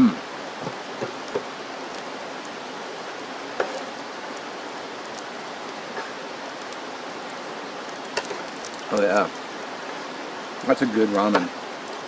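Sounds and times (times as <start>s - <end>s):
rushing outdoor background hiss: 0.0s - 12.0s.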